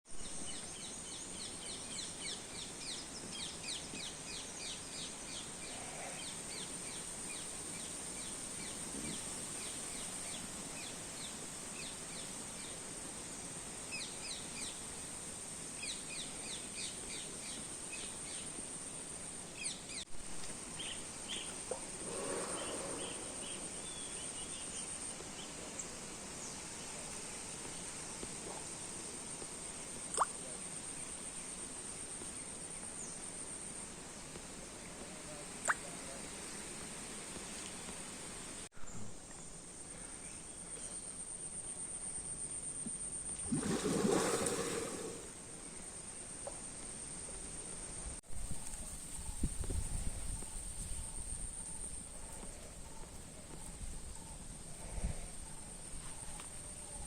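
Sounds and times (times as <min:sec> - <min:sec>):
steady hiss: 0:00.2 - 0:57.0.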